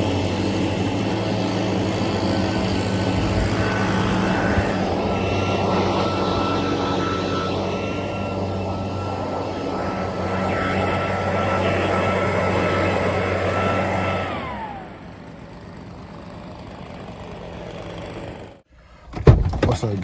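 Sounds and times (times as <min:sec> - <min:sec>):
high whine: 0:00.0 - 0:17.7
lawn mower engine running: 0:00.0 - 0:18.7.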